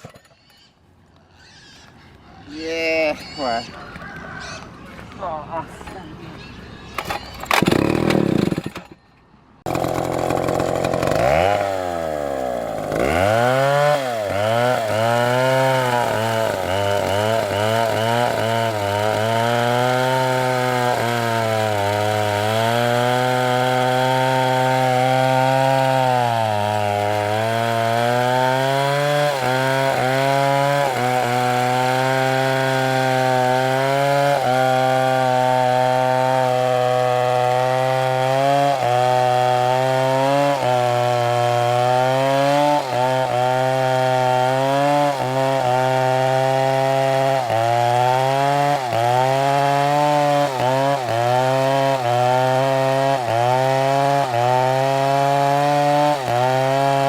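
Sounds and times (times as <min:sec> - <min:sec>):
chainsaw cutting wood: 0:07.0 - 0:09.0, 0:09.6 - 0:57.0.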